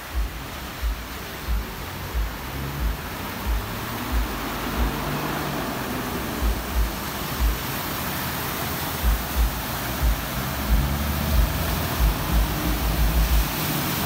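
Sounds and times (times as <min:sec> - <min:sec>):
low thumps: 0:00.0 - 0:07.8, 0:09.0 - 0:13.6
tyres throwing up water spray: 0:00.0 - 0:14.0.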